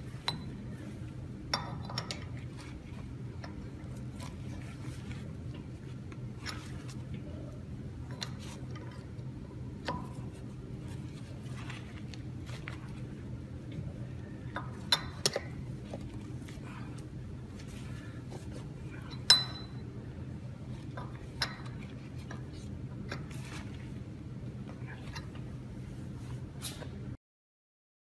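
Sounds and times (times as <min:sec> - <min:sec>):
steady low hum: 0:00.0 - 0:27.2.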